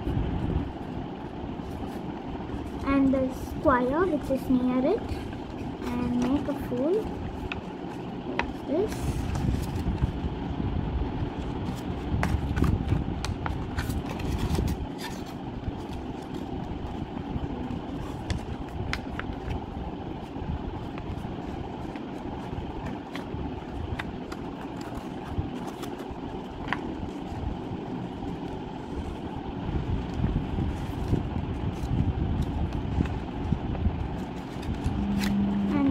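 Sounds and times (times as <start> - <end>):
low background rumble: 0.0 - 35.9
paper being folded and creased: 1.6 - 10.3, 11.3 - 35.9.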